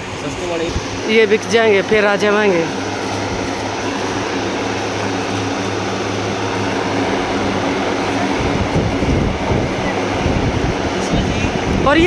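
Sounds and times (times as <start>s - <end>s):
busy market noise: 0.0s - 12.0s
low mechanical hum: 0.0s - 12.0s
low rumbling: 0.0s - 12.0s.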